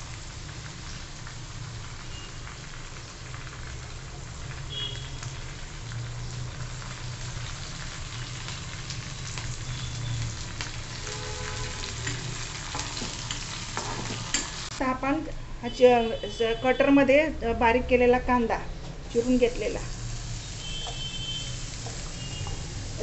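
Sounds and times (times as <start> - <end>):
spices sizzling in hot oil: 0.0 - 17.2, 19.1 - 23.0.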